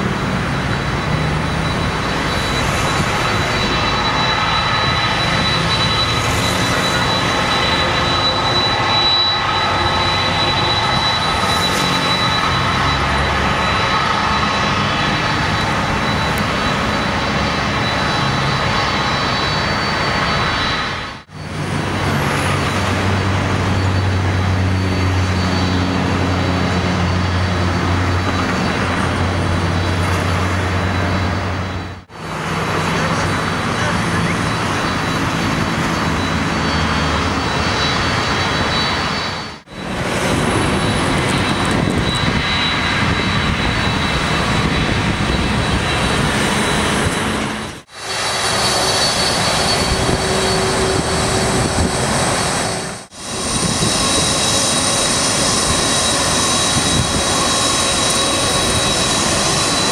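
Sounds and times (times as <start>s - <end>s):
high engine whine: 0.0s - 59.9s
jet engines rumbling at taxi power: 0.0s - 59.9s.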